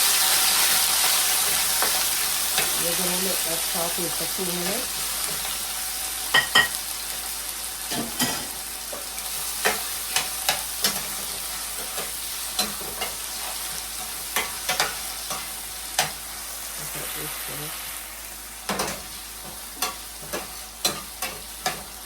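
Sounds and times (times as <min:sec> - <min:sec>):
sizzling in hot oil: 0:00.0 - 0:22.0.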